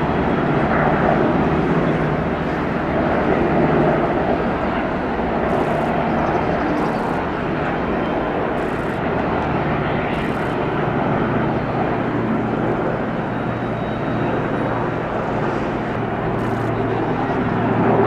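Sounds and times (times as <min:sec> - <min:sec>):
helicopters flying overhead: 0:00.0 - 0:18.0.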